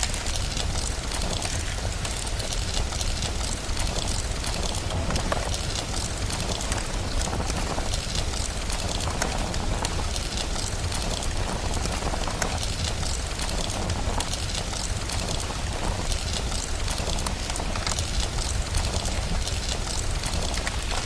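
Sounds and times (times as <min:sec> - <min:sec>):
constant low rumble: 0:00.0 - 0:21.0
steady rain hiss: 0:00.0 - 0:21.0
wood fire crackling and popping: 0:00.0 - 0:21.0.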